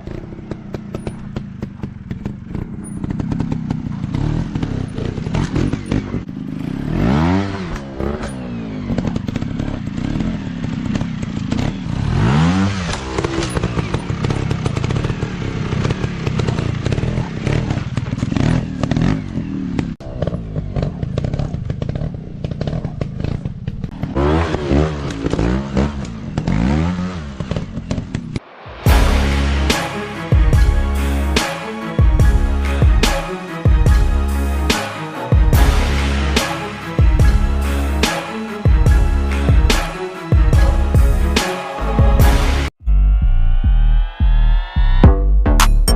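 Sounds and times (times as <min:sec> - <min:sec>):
dirt bike engines revving: 0:00.0 - 0:42.7.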